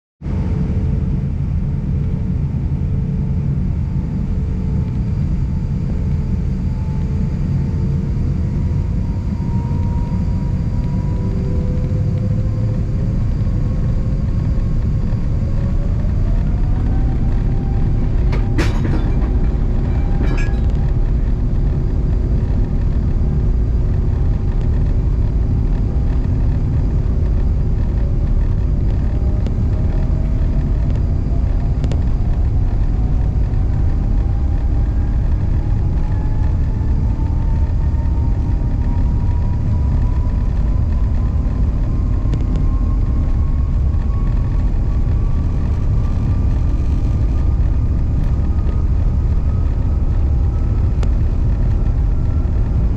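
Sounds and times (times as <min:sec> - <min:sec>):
aircraft cabin rumble: 0:00.2 - 0:52.9.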